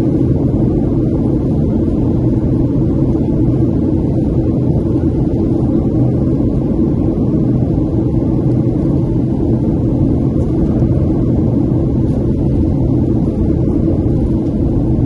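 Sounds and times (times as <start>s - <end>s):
aircraft cabin rumble: 0.0s - 15.0s
steady hum: 0.0s - 15.0s.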